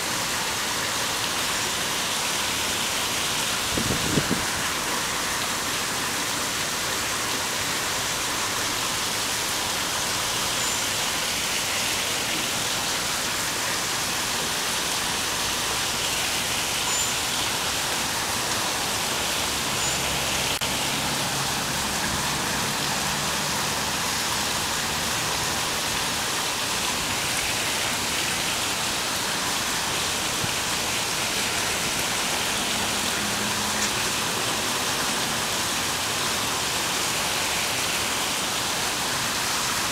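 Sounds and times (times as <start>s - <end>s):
water flowing over stone: 0.0s - 39.9s.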